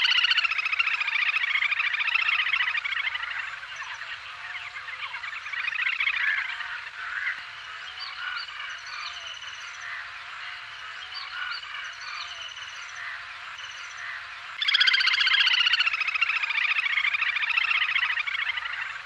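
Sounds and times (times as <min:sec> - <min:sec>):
little grebe calling: 0:00.0 - 0:19.0.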